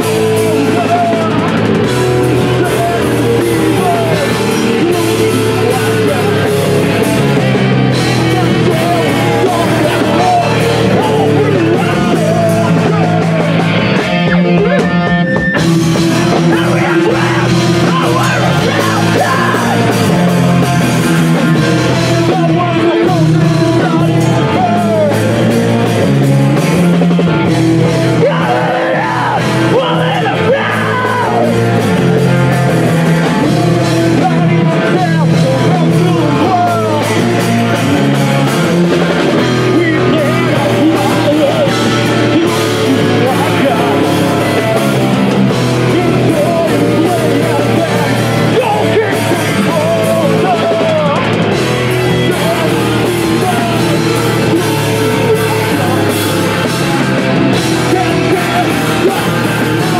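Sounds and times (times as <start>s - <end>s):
drums: 0.0s - 59.9s
electric guitars: 0.0s - 59.9s
person singing: 0.0s - 59.9s.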